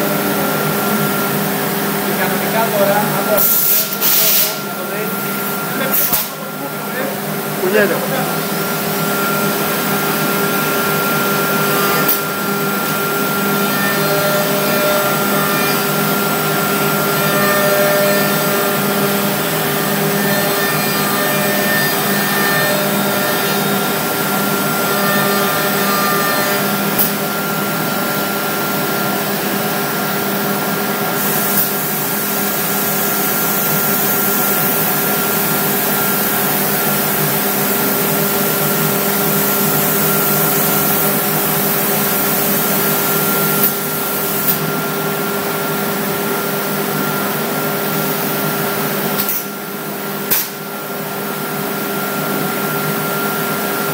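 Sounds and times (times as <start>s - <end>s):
cnc machine running: 0.0s - 50.0s.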